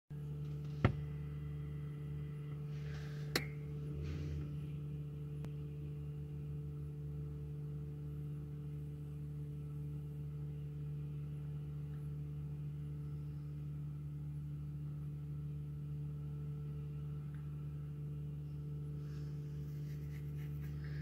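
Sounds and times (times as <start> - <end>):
low hum in car cabin: 0.1 - 21.0.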